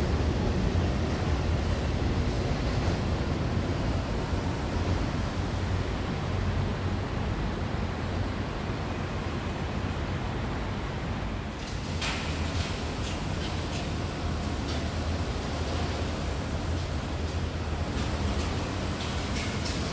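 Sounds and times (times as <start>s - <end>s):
train rumbling on viaduct: 0.0s - 19.9s.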